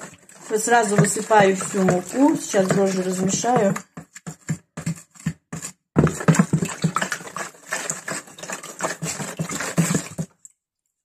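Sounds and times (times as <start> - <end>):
wooden spoon stirring in plastic bowl: 0.0 - 10.4.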